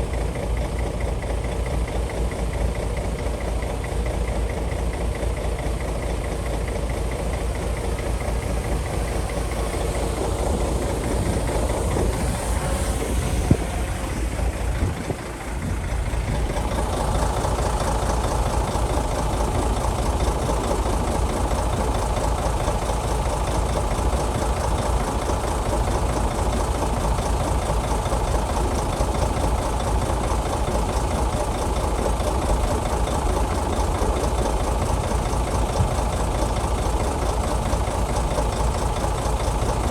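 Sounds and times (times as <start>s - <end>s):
diesel earthmoving machine running: 0.0s - 39.9s.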